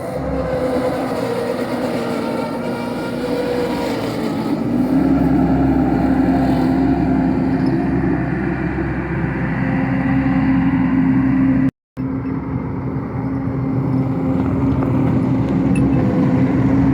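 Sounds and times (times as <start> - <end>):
skid steer engine running: 0.0 - 16.9.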